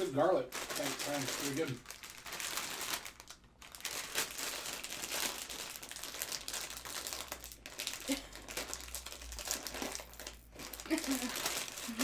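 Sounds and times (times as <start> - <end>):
plastic chip packet crackling: 0.5 - 12.0.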